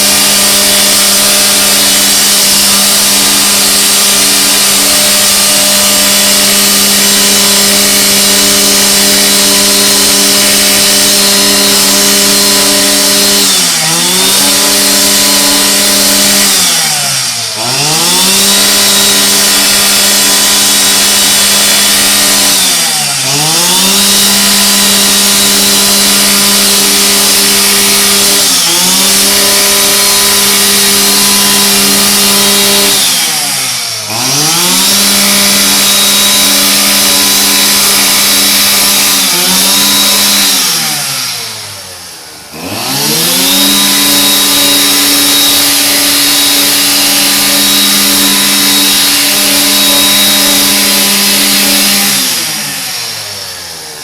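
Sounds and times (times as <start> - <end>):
string trimmer engine revving: 0.0 - 54.0.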